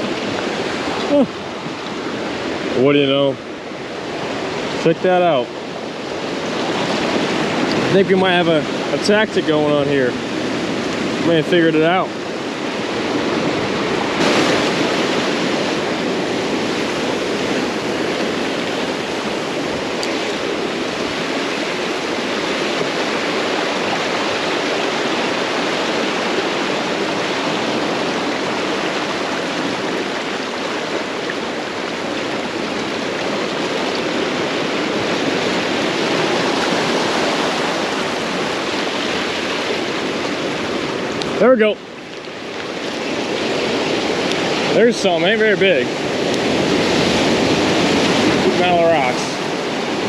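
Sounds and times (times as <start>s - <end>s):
ocean surf on rocks: 0.0s - 50.0s.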